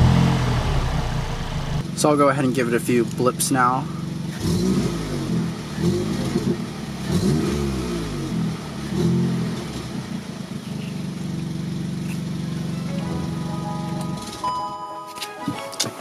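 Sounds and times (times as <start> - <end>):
car engine revving and idling: 0.0 - 14.3.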